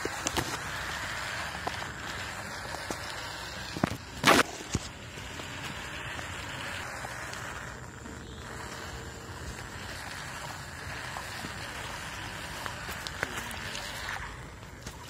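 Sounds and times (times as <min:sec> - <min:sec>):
tiller dragging through dirt: 0:00.0 - 0:15.0
toy tractor motor running: 0:00.0 - 0:15.0.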